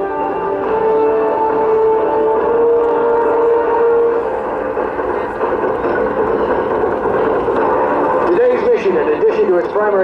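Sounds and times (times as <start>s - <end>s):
turboprop engines droning: 0.0s - 10.0s.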